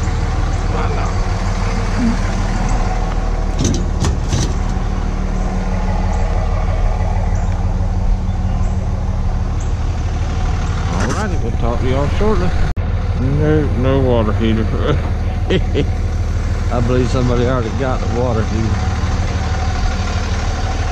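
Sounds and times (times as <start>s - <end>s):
vehicle engine running: 0.0s - 20.9s.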